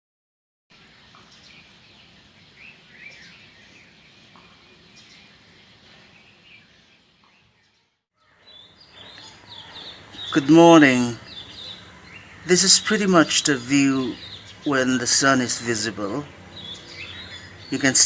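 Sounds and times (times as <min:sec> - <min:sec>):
outdoor background noise: 0:00.7 - 0:18.0
birds chirping: 0:00.8 - 0:18.0.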